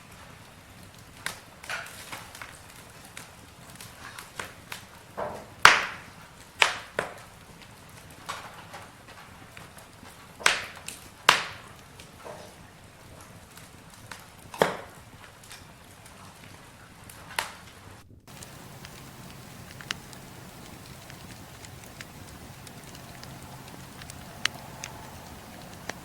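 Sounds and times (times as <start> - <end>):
campfire crackling and popping: 0.0 - 26.0
faint steady hiss: 0.0 - 26.0.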